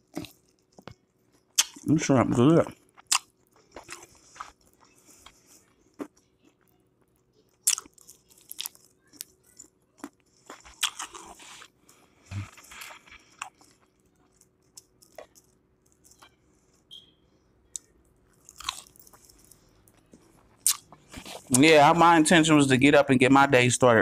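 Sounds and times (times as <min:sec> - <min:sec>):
person crunching fried food: 0:00.0 - 0:16.8, 0:17.7 - 0:22.0.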